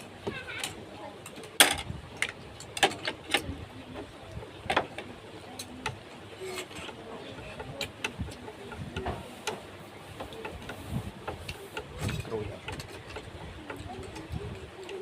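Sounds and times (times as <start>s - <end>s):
sharp clicks and knocks: 0.0s - 15.0s.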